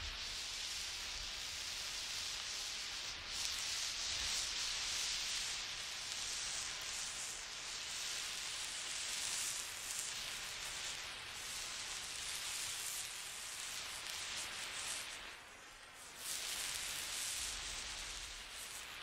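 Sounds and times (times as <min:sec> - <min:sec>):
static-like hiss: 0:00.0 - 0:19.0.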